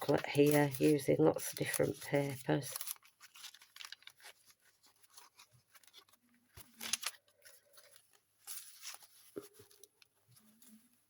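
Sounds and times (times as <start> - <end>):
paper pages rustling and crinkling: 0.0 - 11.0.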